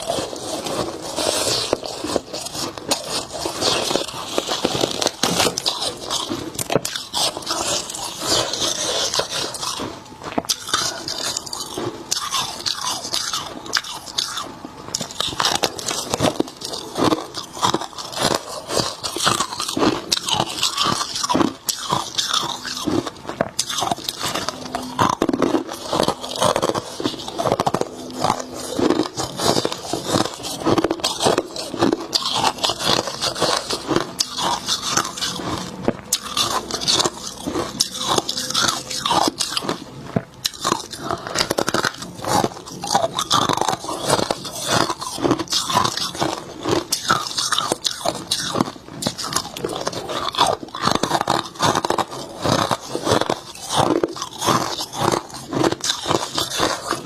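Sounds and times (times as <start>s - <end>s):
crunching and chewing frost: 0.0s - 57.0s.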